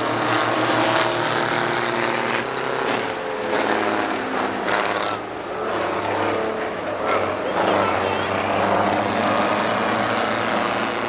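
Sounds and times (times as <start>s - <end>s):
truck diesel engines running hard: 0.0s - 11.0s.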